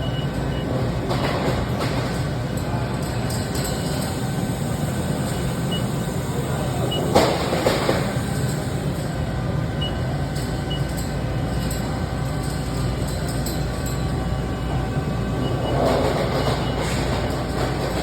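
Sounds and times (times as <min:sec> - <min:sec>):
lathe mechanical hum: 0:00.0 - 0:18.0.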